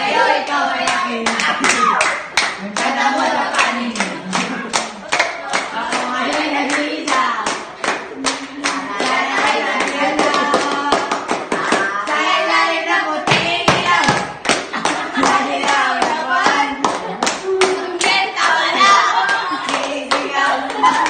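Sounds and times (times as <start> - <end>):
rhythmic hand clapping: 0.0 - 21.0
young voices singing and calling: 0.0 - 21.0.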